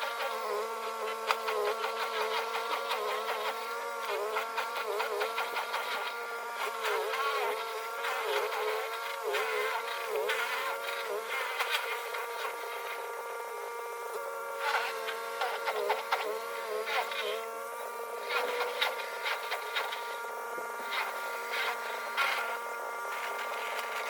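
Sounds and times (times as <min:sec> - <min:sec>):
electric snow blower whining: 0:00.0 - 0:24.0.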